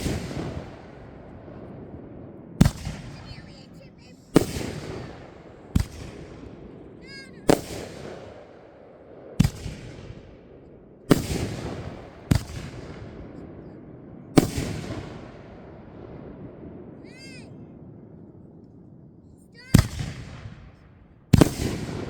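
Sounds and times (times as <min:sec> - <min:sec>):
fireworks bangs echoing: 0:00.0 - 0:22.0.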